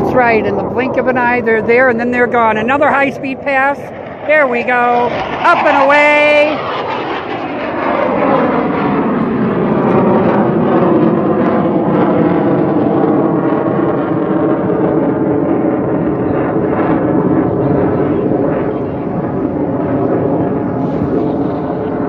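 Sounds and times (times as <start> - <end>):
jet roar: 0.0 - 22.0.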